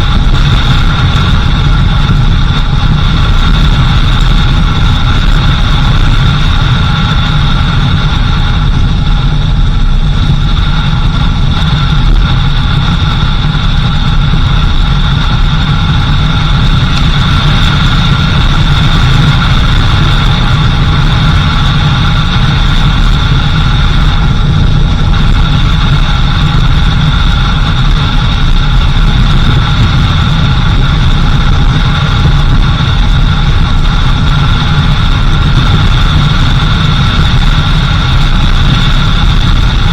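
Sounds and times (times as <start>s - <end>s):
constant high-pitched tone: 0.0s - 39.9s
vehicle engine and road rumble: 0.0s - 39.9s.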